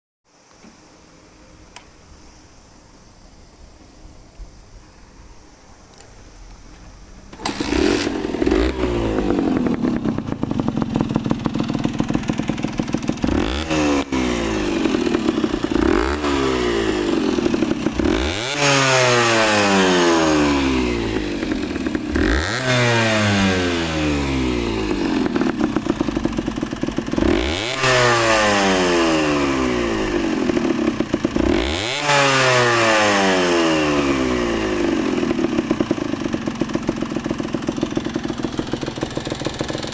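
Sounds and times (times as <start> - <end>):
motorcycle engine revving: 7.3 - 39.9
two-stroke engine starting: 7.3 - 39.9.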